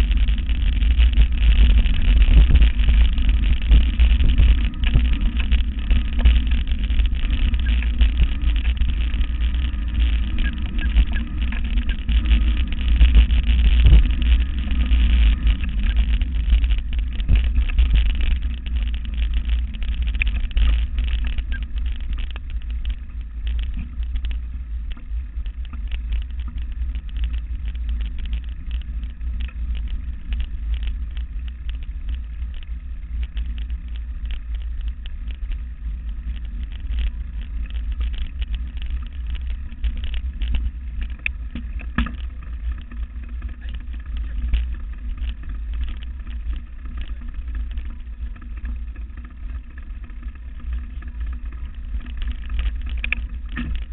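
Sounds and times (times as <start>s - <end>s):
bike rolling over dirt trail: 0.0s - 53.9s
rattles and knocks from bumps: 0.0s - 53.9s.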